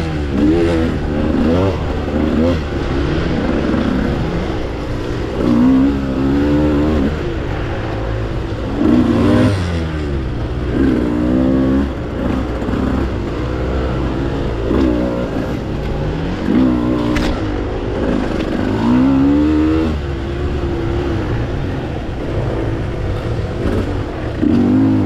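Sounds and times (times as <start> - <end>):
off-road engine revving: 0.0 - 25.0.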